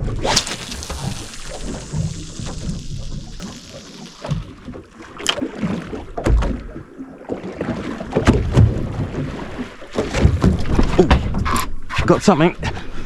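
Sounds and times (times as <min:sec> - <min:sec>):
water slapping against boat hull: 0:00.0 - 0:11.6.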